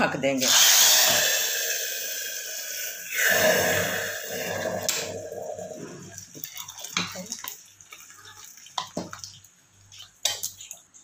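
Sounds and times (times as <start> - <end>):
oil sizzling in pot: 0.2 - 11.0.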